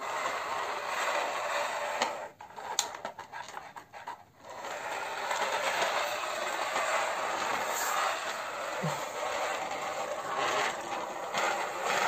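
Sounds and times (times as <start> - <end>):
toy excavator rattling over floor: 0.0 - 12.0.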